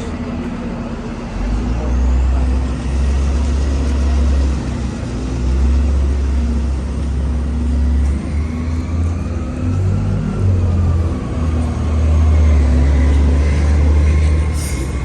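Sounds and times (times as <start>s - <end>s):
bus engine low rumble: 0.0s - 15.0s.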